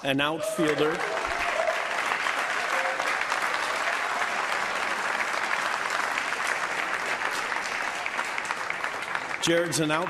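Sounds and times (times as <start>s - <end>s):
audience applauding: 0.4s - 10.0s.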